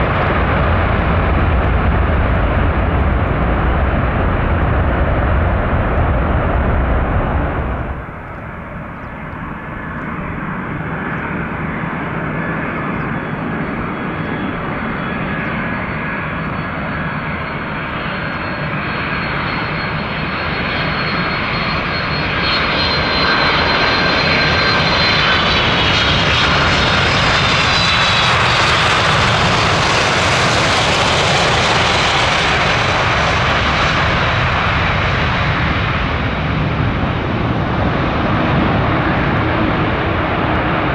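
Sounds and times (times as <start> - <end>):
high engine whine: 0.0 - 40.9
jet engines roaring: 0.0 - 40.9.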